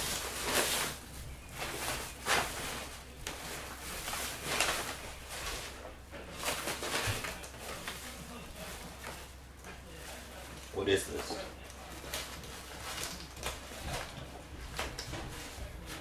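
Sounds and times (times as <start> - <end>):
cloth bag and wrapping rustling: 0.0 - 16.0.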